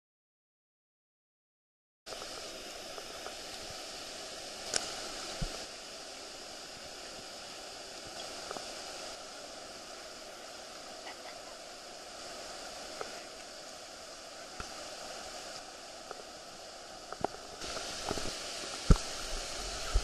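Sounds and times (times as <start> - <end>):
water rushing over weir: 2.1 - 20.0.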